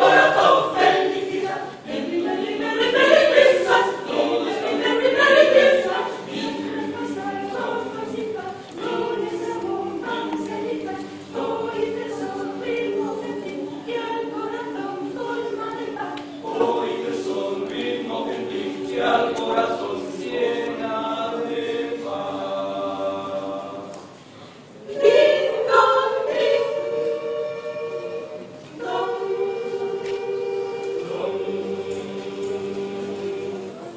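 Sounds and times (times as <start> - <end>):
mixed choir singing: 0.0 - 33.9.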